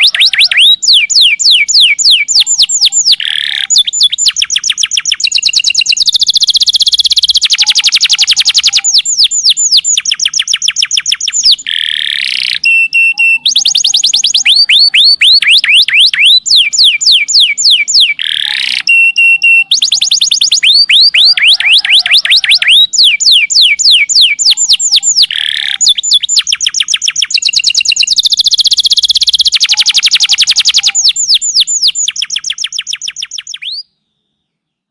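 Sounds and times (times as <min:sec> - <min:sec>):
canary singing trills: 0:00.0 - 0:34.6.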